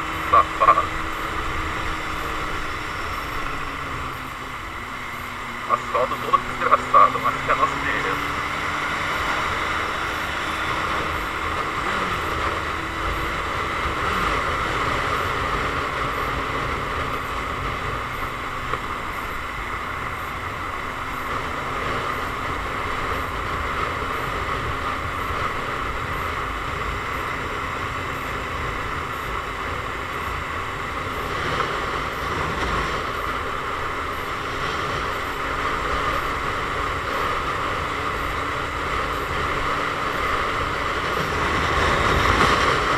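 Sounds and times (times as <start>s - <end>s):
motorcycle engine drone: 0.0s - 42.9s
wind rushing over microphone: 0.0s - 42.9s.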